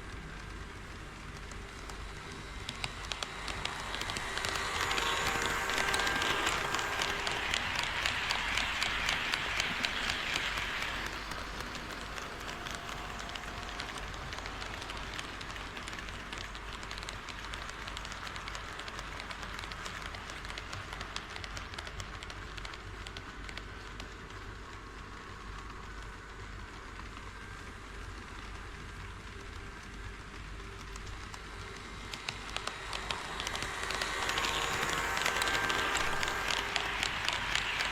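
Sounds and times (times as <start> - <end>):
model train wheels clicking: 0.0 - 37.9.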